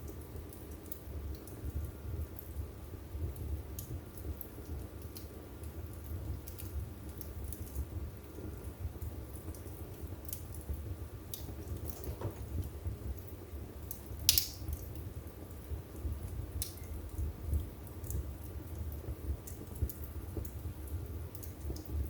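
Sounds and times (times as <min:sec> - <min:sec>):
burning wood crackling and popping: 0:00.0 - 0:22.0
fire flames rumbling: 0:00.0 - 0:22.0.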